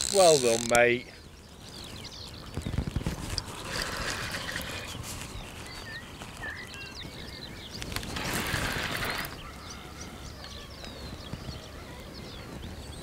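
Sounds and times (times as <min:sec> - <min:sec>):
lakeside ambience: 0:00.0 - 0:13.0
small birds chirping and singing: 0:00.0 - 0:13.0.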